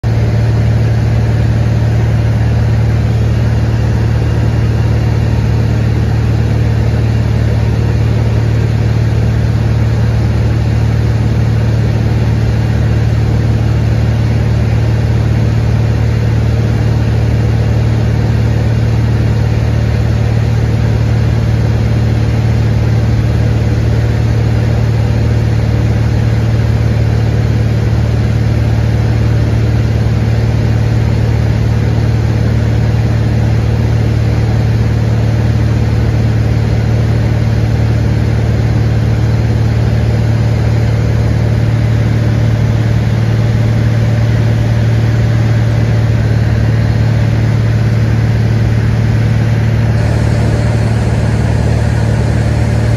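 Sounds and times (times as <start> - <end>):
propeller plane engine droning: 0.0 - 52.9.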